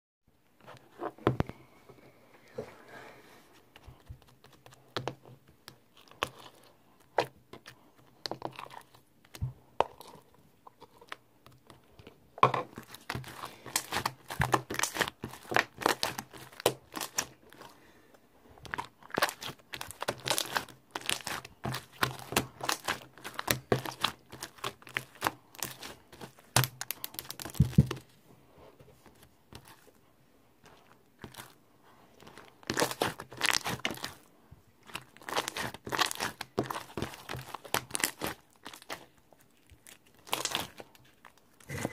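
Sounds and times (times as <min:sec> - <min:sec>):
crinkling and crackling: 0:00.5 - 0:30.0, 0:30.6 - 0:41.9.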